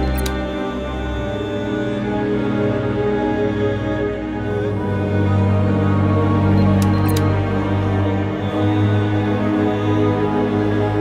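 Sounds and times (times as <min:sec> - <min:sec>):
low drone: 0:00.0 - 0:11.0
music with long held tones: 0:00.0 - 0:11.0.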